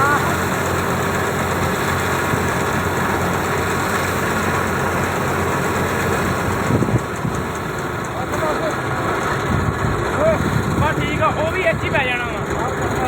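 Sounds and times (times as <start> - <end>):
machinery engine running: 0.0 - 13.0.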